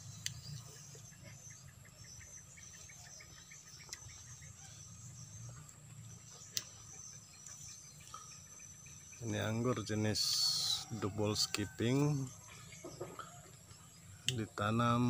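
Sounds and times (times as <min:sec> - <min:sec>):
insect buzzing and chirping: 0:00.0 - 0:15.0.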